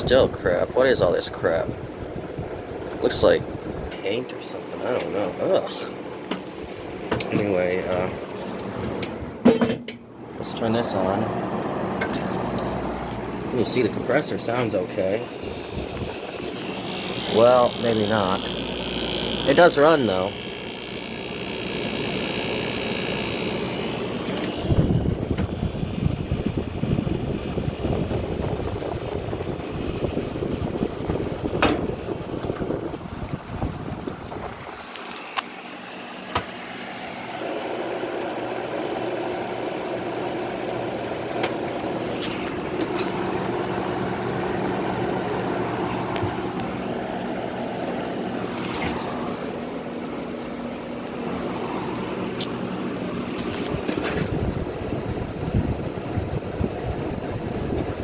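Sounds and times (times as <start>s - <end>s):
window air conditioner running: 0.0s - 58.0s.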